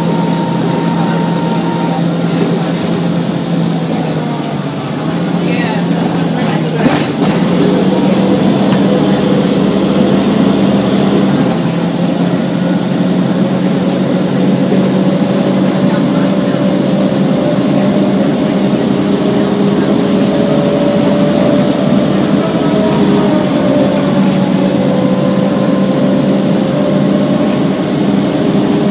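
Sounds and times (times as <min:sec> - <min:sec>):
bus diesel engine running: 0:00.0 - 0:28.9
high whine: 0:00.0 - 0:28.9.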